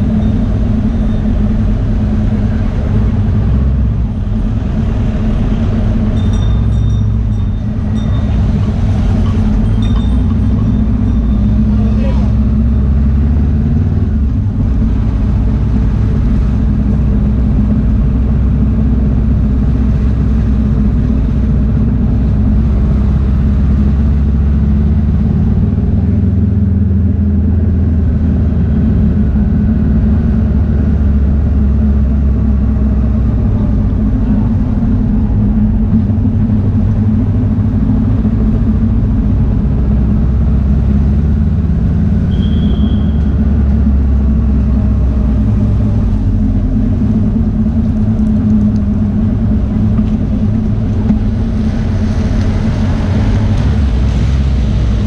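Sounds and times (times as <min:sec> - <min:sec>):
motorcycle engine rumbling: 0:00.0 - 0:55.0
wind noise: 0:00.0 - 0:55.0.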